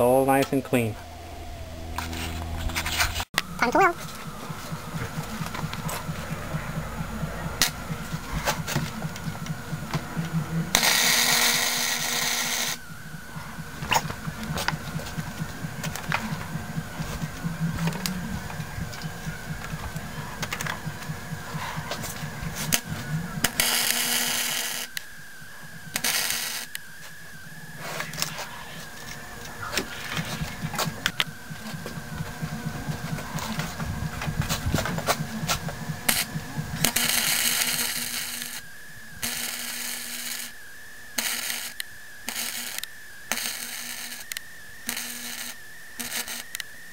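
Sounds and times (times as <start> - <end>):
steady hum: 0.0 - 46.9
welding arc crackling: 2.0 - 46.7.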